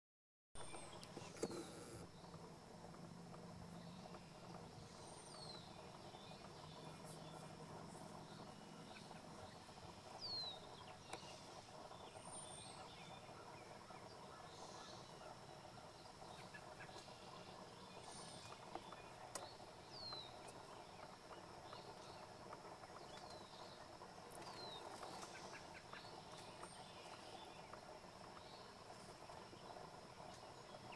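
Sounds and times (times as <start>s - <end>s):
distant songbird calls: 0.6s - 30.9s
faint high hum: 0.6s - 30.9s.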